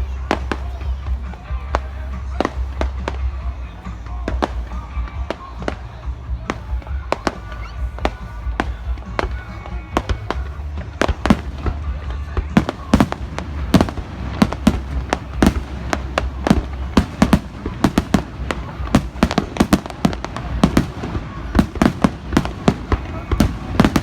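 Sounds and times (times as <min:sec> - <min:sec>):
fireworks cracking and popping: 0:00.0 - 0:24.0
low rumble: 0:00.0 - 0:24.0.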